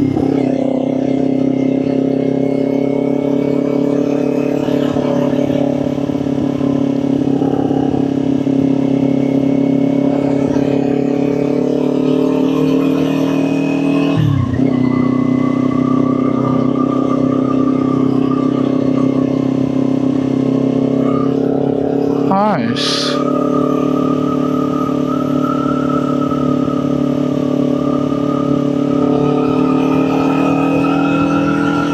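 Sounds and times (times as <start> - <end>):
motorcycle engine running: 0.0 - 22.5, 23.2 - 31.9.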